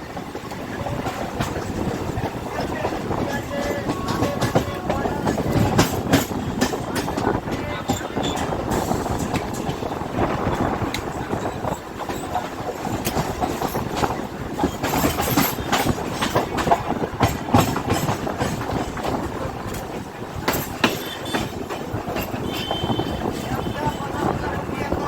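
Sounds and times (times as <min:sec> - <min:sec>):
train wheels clattering on rails: 0:00.0 - 0:25.0.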